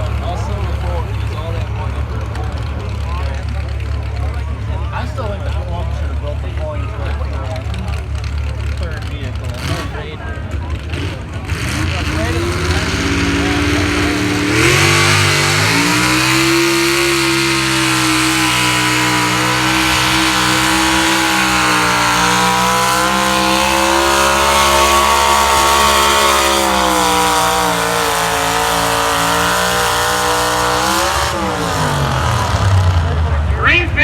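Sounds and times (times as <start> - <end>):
truck engine at full throttle: 0.0 - 34.0.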